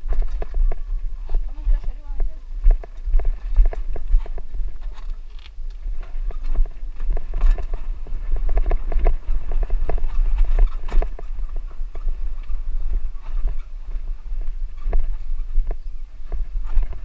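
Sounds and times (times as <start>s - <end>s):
bicycle rattling on rough track: 0.0s - 17.0s
wind buffeting microphone: 0.0s - 17.0s.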